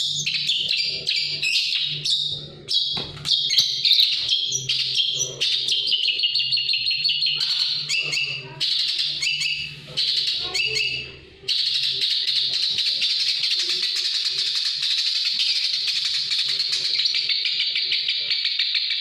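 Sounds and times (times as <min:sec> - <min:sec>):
bird rasping chatter: 0:00.0 - 0:19.0.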